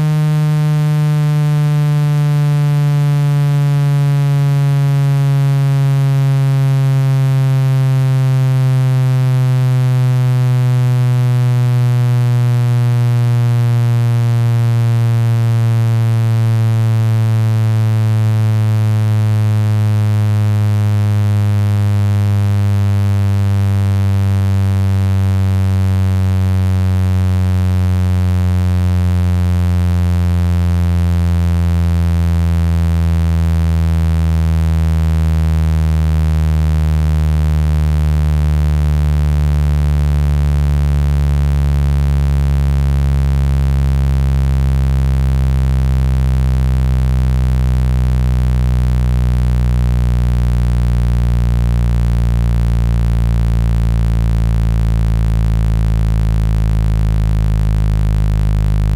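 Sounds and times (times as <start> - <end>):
deeper hum: 0.0 - 58.9
synthetic low buzzing tone: 0.0 - 58.9.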